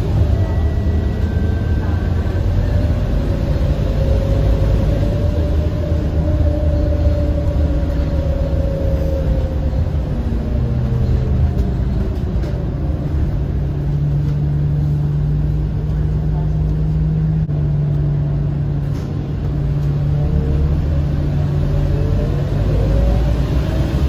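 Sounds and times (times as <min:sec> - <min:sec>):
bus diesel engine rumble: 0:00.0 - 0:24.0
engine whine: 0:00.0 - 0:24.0
low engine tone rising: 0:00.0 - 0:24.0.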